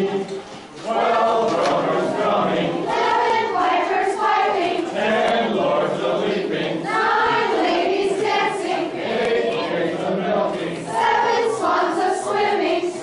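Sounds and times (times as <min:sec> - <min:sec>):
group singing a carol: 0:00.0 - 0:13.0.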